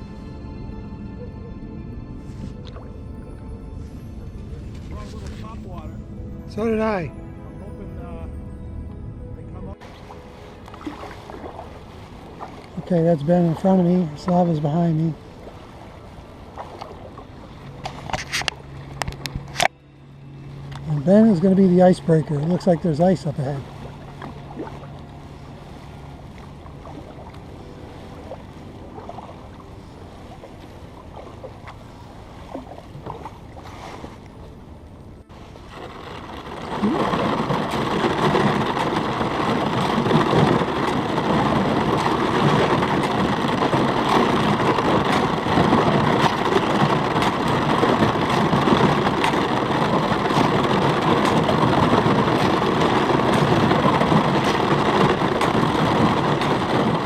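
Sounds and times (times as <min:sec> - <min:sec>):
ice crackling against kayak hull: 0:04.7 - 0:05.9, 0:09.8 - 0:19.7, 0:20.6 - 0:34.4, 0:35.3 - 0:57.0.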